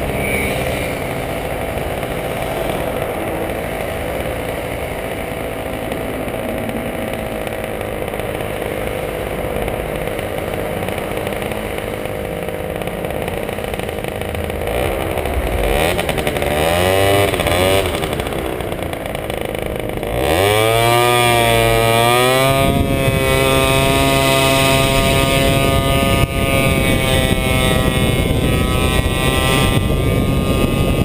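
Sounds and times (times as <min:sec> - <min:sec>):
scooter engine accelerating: 0:00.0 - 0:31.0.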